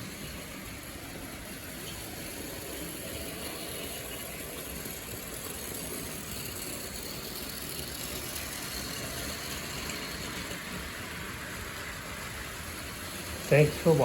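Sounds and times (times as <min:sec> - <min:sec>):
toy train wheels on rails: 0:00.0 - 0:14.0.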